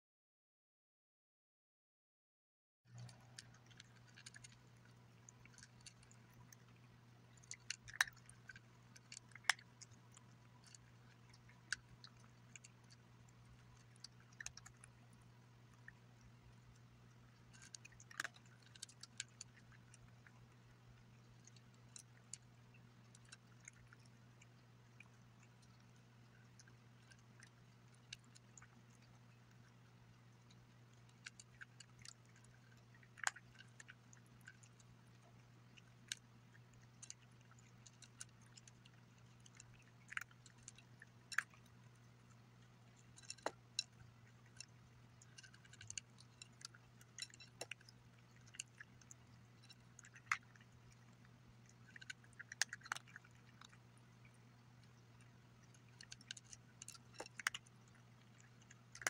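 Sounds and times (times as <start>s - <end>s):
cat crunching dry kibble: 2.9s - 59.0s.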